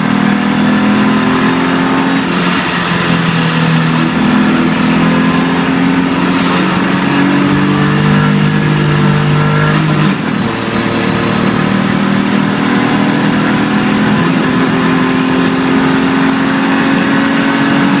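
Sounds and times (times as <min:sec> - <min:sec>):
car engine pulling: 0:00.0 - 0:18.0.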